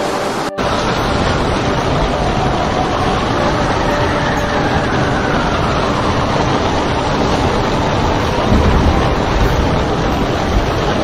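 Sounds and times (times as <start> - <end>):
breaking waves roaring: 0.0 - 11.0
wave crashing over bow: 0.0 - 11.0
wind buffeting microphone: 0.0 - 11.0.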